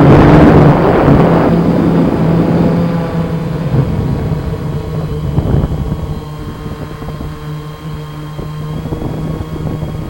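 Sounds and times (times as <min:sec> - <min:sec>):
low wind rush: 0:00.0 - 0:10.0
quadcopter propellers humming: 0:00.0 - 0:10.0.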